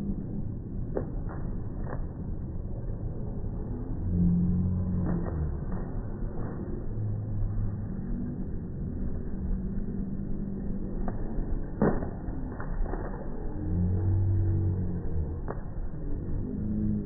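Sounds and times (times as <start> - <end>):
slowed-down hoofbeats rumble: 0.0 - 17.0.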